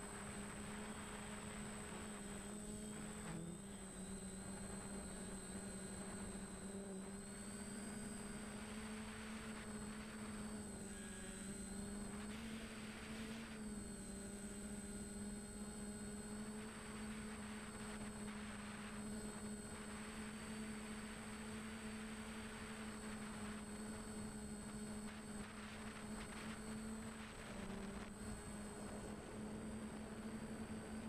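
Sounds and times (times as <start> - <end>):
drone motors humming: 0.0 - 31.0.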